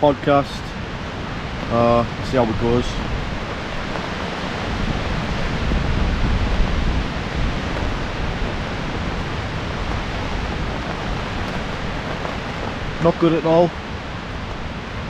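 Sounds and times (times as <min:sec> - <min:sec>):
wind and rain rushing: 0:00.0 - 0:15.0
wind buffeting microphone: 0:00.3 - 0:15.0.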